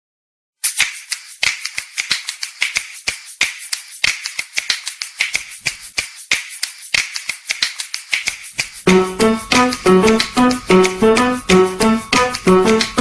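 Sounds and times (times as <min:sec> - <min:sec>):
percussive clicks and snaps: 0:00.6 - 0:13.0.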